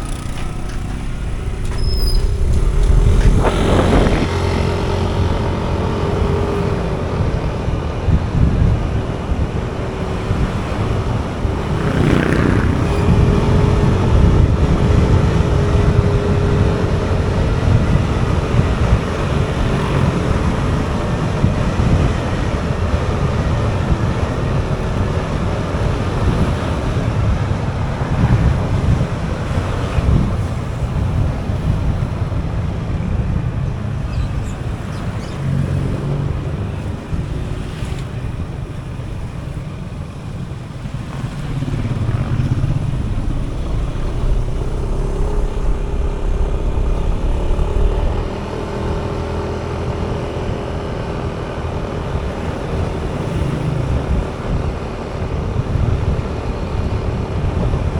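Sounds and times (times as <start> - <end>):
motorcycle engine: 0.0 - 57.8
wind buffeting microphone: 0.0 - 57.9.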